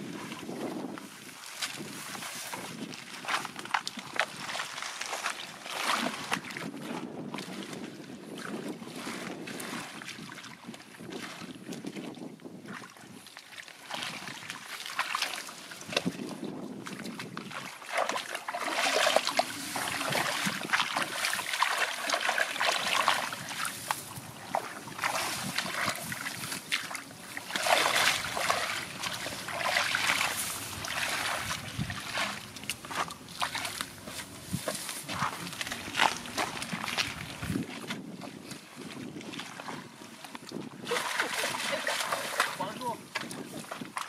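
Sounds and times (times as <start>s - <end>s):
feet wading in water: 0.0s - 44.0s
muddy water sloshing and splashing: 0.0s - 44.0s.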